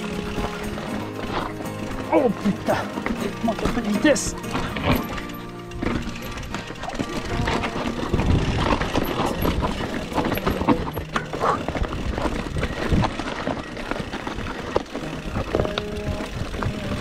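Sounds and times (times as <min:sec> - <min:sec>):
mountain bike clattering on rocks: 0:00.0 - 0:17.0.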